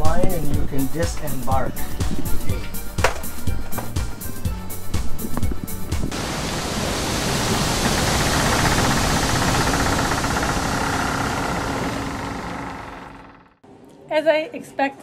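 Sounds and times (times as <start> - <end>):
steady rushing hiss: 0.0 - 13.6.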